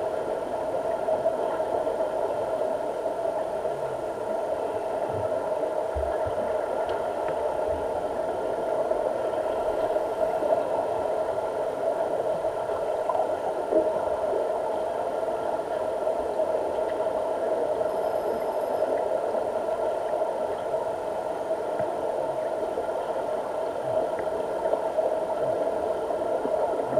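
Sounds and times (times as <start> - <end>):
underwater mechanical drone: 0.0 - 26.9.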